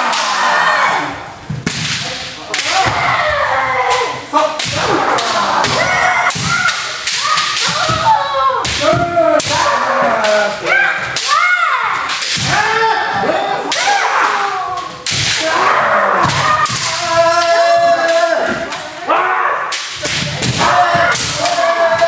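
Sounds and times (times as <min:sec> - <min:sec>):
people shouting: 0:00.0 - 0:01.4, 0:02.0 - 0:22.0.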